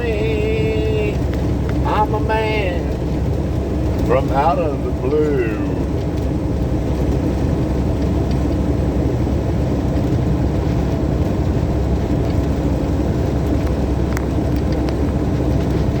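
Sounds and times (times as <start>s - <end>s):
truck engine drone and road noise: 0.0s - 16.0s.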